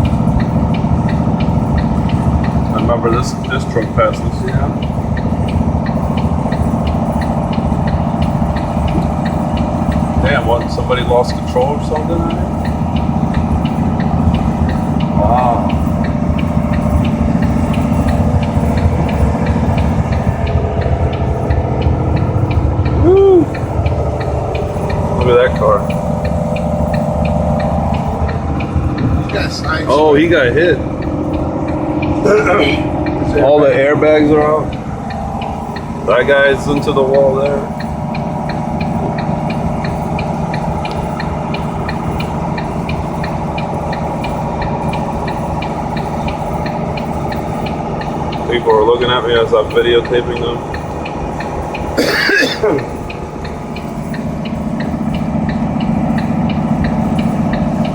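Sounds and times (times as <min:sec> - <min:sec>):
engine and road rumble: 0:00.0 - 0:57.9
light regular ticking: 0:00.0 - 0:57.9.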